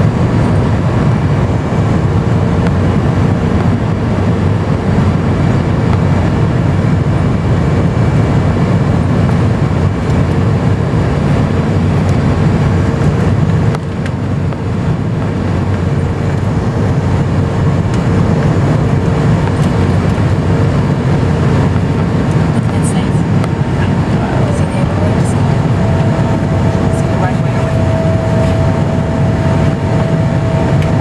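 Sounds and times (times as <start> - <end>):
jet engines and airflow rumble: 0.0 - 31.0
steady cabin hum: 0.0 - 31.0.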